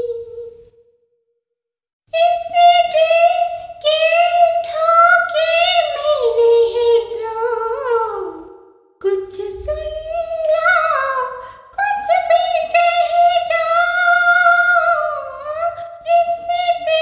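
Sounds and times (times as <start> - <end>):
woman singing unaccompanied: 2.1 - 17.0.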